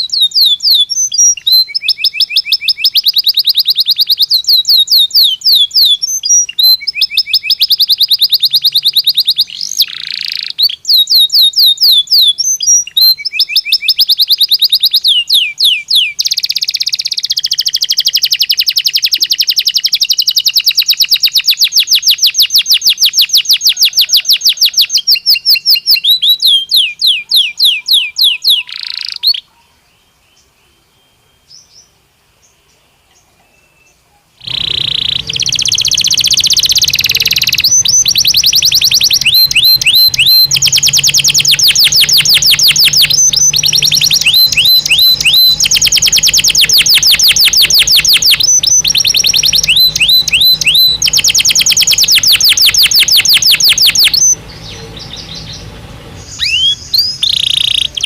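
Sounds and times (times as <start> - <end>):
canary singing trills: 0.0 - 32.0, 33.0 - 58.0.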